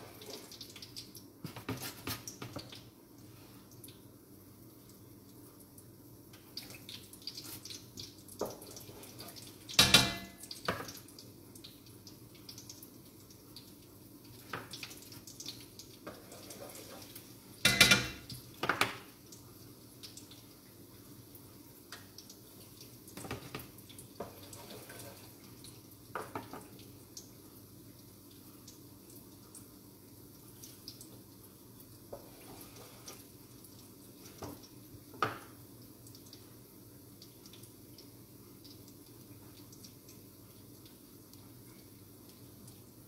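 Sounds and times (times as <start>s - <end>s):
dough sizzling in hot oil: 0.0s - 43.0s.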